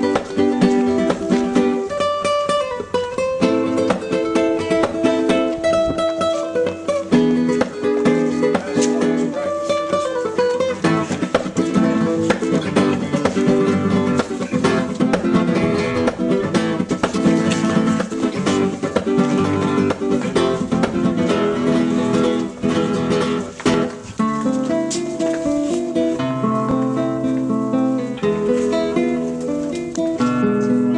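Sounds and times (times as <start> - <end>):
flamenco-style acoustic guitar: 0.0 - 30.9.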